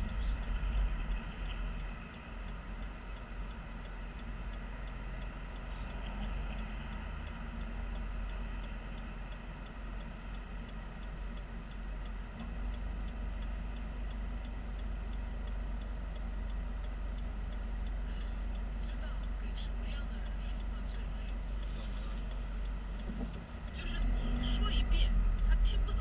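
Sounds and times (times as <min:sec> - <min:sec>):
car engine idling: 0:00.0 - 0:26.0
turn signal clicking: 0:00.0 - 0:26.0.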